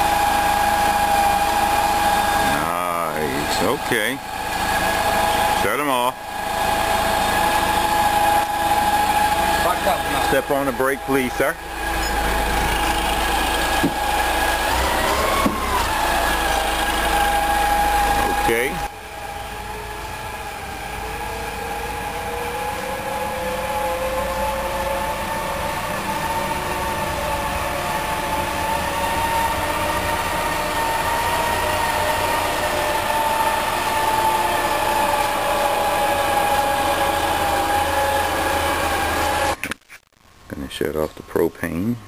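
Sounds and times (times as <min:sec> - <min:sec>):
forklift engine running: 0:00.0 - 0:39.7
steady whine: 0:00.0 - 0:42.0.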